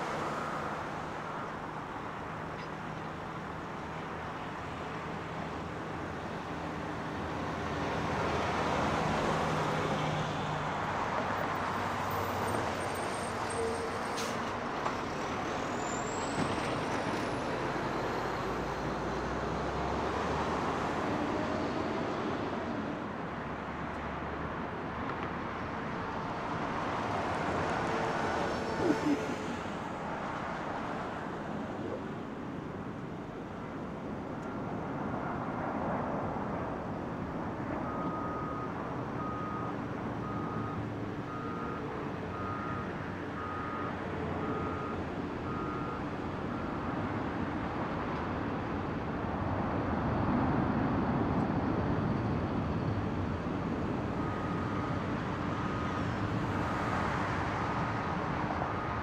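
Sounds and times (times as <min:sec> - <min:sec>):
background traffic: 0:00.0 - 0:59.0.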